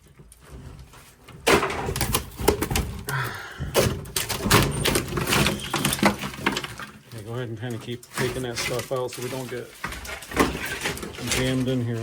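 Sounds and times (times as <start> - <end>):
wood and sheet metal clattering: 0.0 - 12.0.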